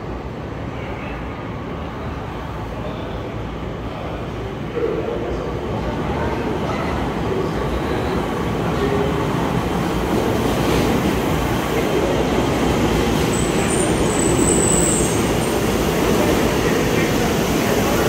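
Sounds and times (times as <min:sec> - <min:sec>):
train rumbling into platform: 0:00.0 - 0:18.0.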